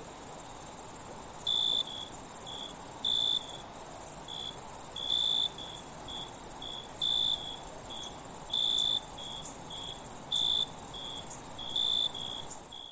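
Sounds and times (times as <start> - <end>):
cricket chirping: 0.0 - 12.9
high-pitched insect trill: 0.1 - 12.9.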